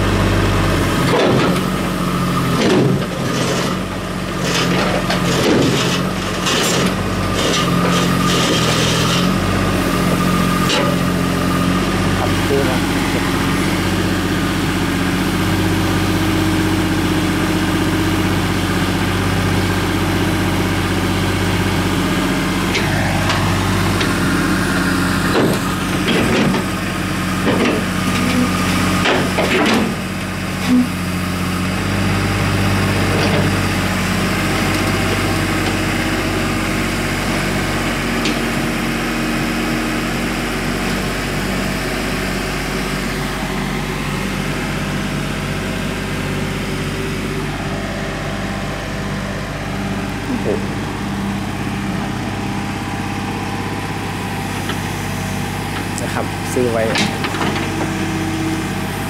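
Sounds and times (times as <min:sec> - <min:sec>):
mini excavator diesel engine: 0:00.0 - 0:59.0.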